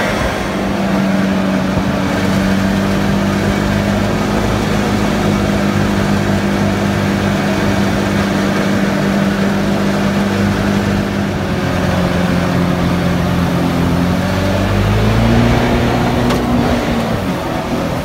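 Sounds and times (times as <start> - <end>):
boat engine running: 0.0 - 18.0
water rushing past hull: 0.0 - 18.0.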